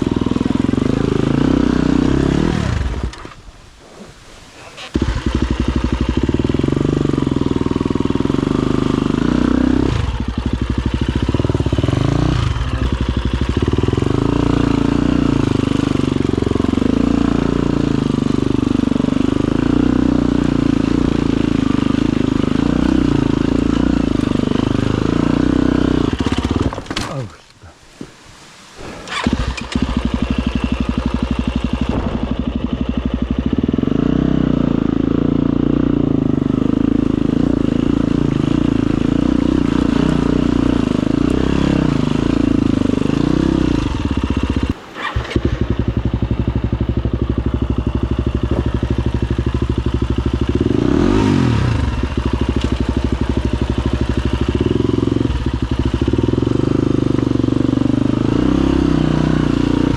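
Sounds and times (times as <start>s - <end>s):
dirt bike engine running: 0.0s - 4.0s, 4.7s - 27.2s, 28.8s - 59.9s.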